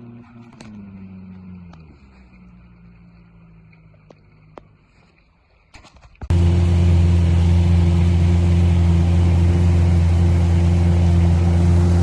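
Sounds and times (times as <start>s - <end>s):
outboard motor droning: 0.0s - 5.6s, 6.2s - 12.0s.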